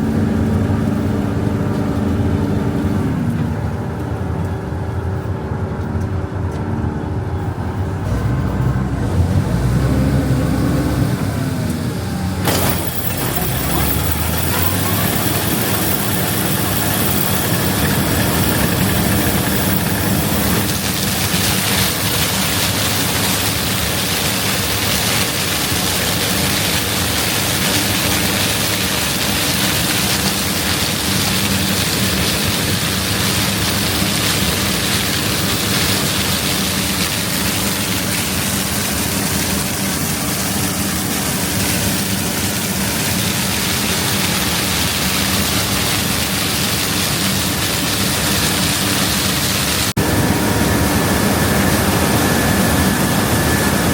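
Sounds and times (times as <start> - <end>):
diesel engine hum: 0.0 - 53.9.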